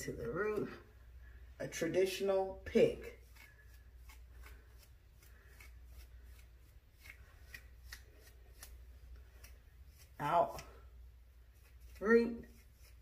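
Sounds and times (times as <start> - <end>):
comb scratching through hair: 1.7 - 13.0.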